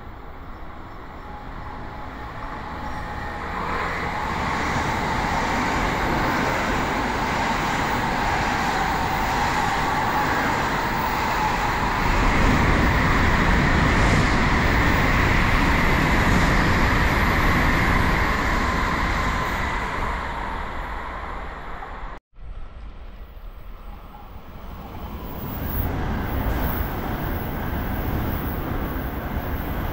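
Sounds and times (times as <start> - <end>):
high-speed train passing: 0.0 - 29.9.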